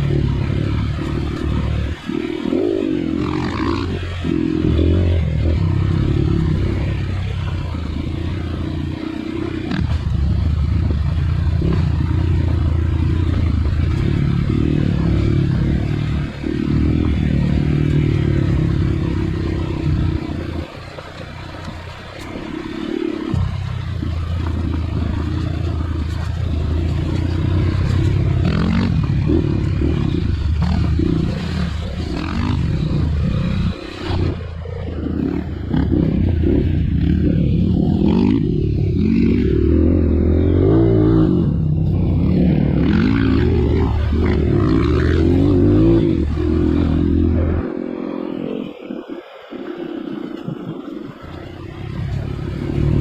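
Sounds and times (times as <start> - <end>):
dirt bike engine running: 0.0 - 48.6, 49.6 - 53.0.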